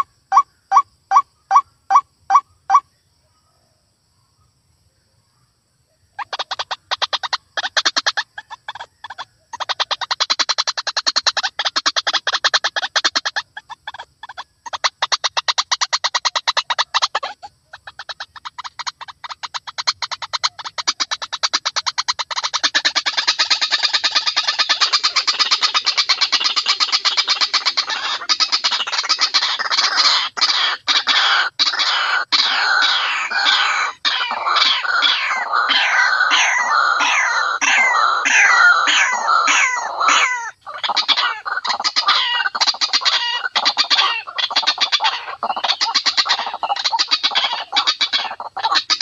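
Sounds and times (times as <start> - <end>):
waterhen calling: 0.0 - 2.8, 6.2 - 49.0.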